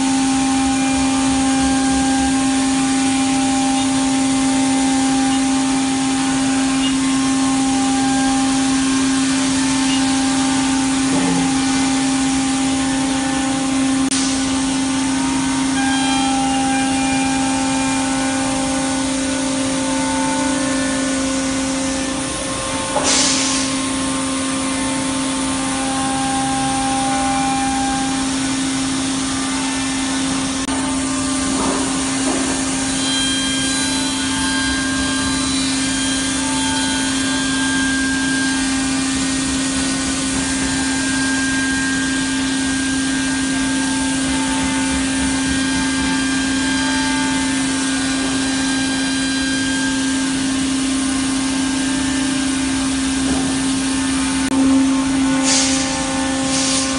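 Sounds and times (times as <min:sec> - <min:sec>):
cutter milling wood: 0:00.0 - 0:56.9
router spindle whine: 0:00.0 - 0:56.9.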